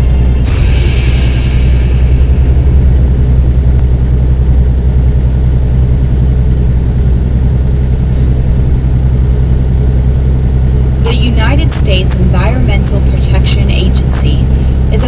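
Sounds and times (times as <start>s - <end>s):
engine and road noise in cabin: 0.0s - 15.0s.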